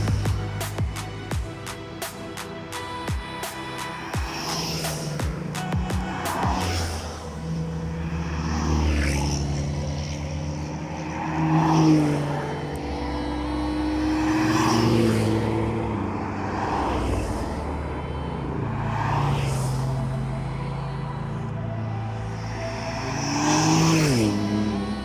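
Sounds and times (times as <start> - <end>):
sports car engines revving: 0.0 - 25.0.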